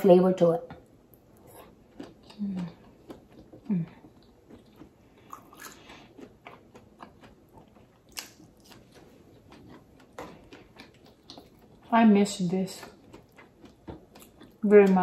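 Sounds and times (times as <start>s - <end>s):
person chewing: 0.8s - 15.0s.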